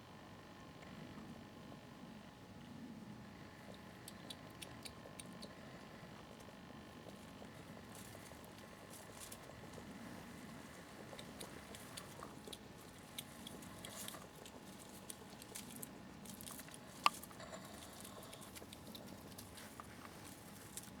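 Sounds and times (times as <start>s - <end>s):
hedgehogs clicking and rustling: 3.4s - 21.0s.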